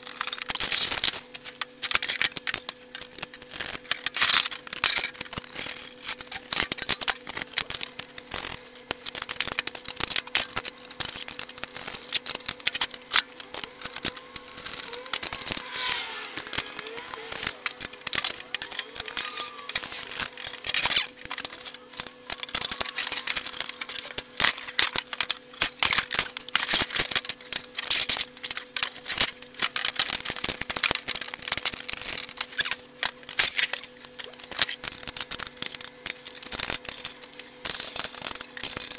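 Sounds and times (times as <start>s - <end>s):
metal parts clicking and clanking: 0.0s - 38.9s
steady low hum: 0.0s - 38.9s.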